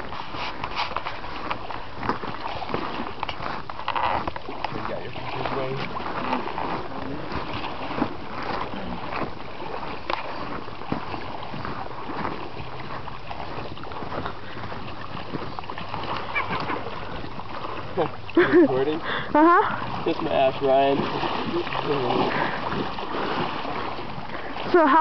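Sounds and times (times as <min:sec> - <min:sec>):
person wading through water: 0:00.0 - 0:25.0
shallow river water flowing: 0:00.0 - 0:25.0.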